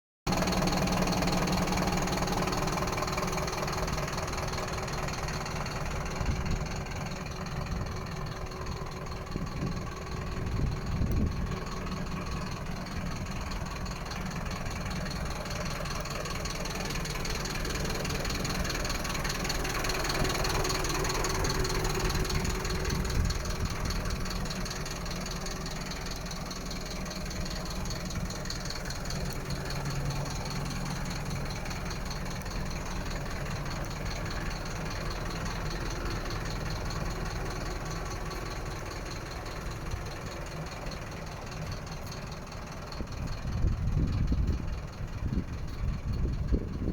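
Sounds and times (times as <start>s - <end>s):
truck diesel engine idling: 0.2s - 46.9s.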